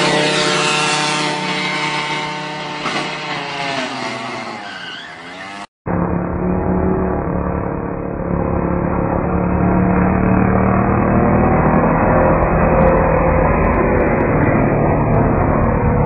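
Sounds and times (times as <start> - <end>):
scooter engine at high revs: 0.0 - 5.7, 8.0 - 16.0.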